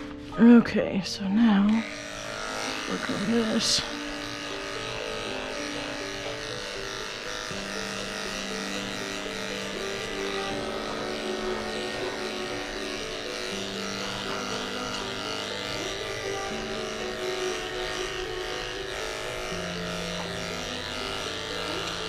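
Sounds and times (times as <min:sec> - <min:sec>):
electric clippers buzzing: 0:00.0 - 0:00.4, 0:01.2 - 0:22.0
slow background music: 0:00.0 - 0:22.0.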